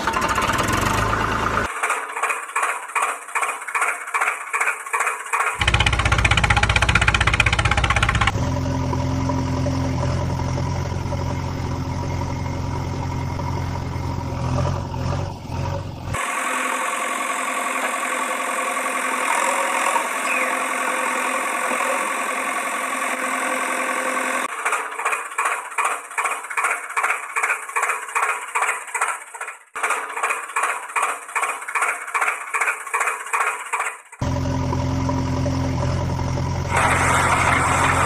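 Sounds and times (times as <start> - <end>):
engine chugging: 0.0 - 38.0
engine running: 0.0 - 38.0.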